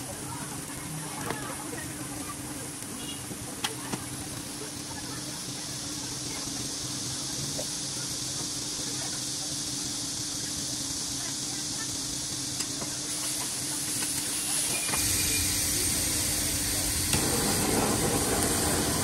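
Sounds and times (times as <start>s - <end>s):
food sizzling on grill: 0.0s - 19.0s.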